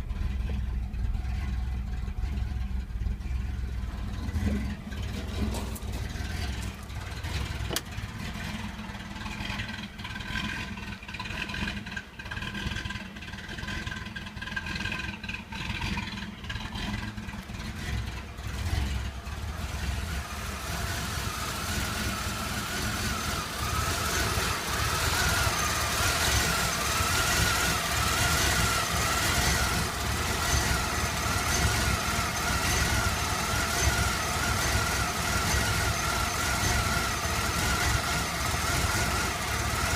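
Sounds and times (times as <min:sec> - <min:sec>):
engine rough idle: 0:00.0 - 0:39.9.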